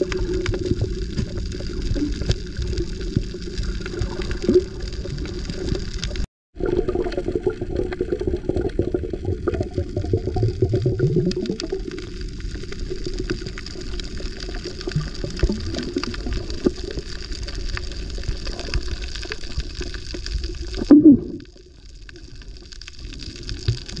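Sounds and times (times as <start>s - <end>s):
bubbling: 0.0s - 24.0s
underwater water rushing: 0.0s - 24.0s.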